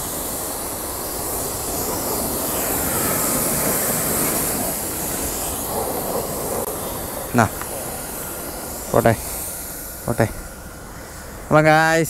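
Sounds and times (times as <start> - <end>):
water jet spraying on concrete: 0.0 - 12.0.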